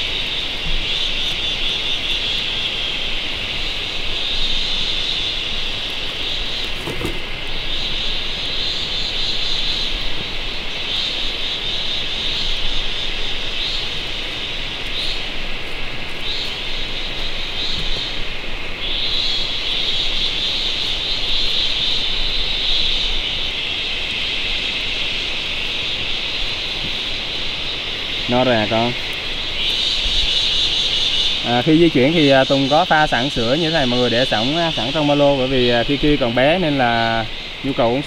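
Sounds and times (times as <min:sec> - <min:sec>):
insects buzzing: 0:00.0 - 0:38.0.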